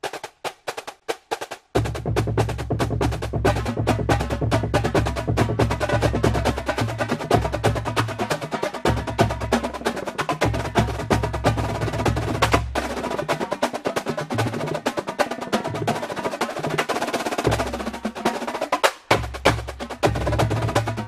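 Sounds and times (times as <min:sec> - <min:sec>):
fast percussive music: 0:00.0 - 0:21.0.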